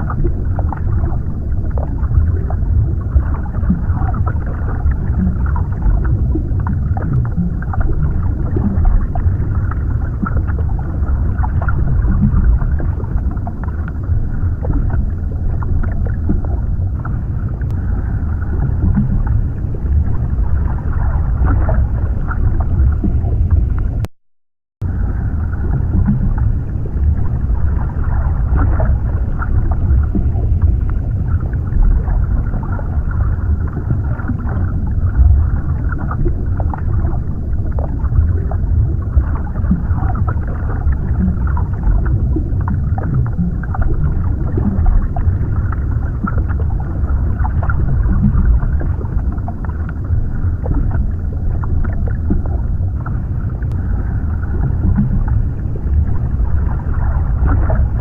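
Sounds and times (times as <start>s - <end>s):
underwater water wash: 0.0s - 24.1s, 24.8s - 58.0s.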